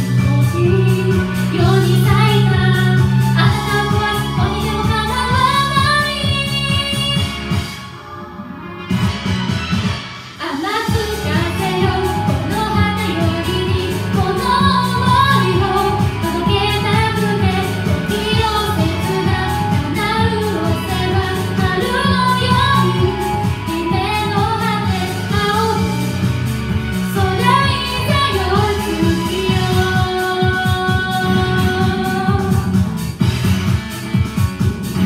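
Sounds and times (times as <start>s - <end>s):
woman singing karaoke: 0.0s - 7.7s, 10.4s - 26.3s, 27.1s - 32.9s
pop backing track with beat: 0.0s - 35.0s.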